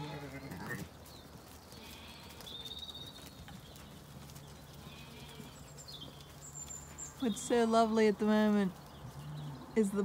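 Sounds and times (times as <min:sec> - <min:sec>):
sheep hooves pattering: 0:00.0 - 0:10.0.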